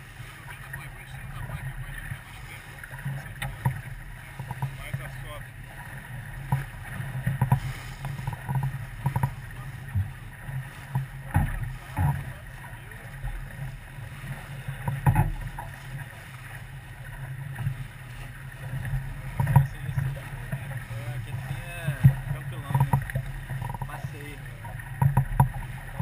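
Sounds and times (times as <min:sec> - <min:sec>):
low boat rumble: 0:00.0 - 0:26.0
water thumps and splashes: 0:01.4 - 0:26.0.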